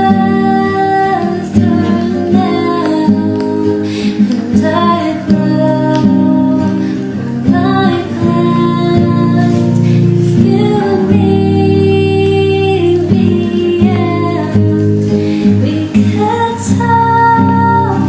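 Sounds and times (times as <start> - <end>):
acoustic guitar: 0.0 - 18.0
woman singing pop song: 0.0 - 18.0.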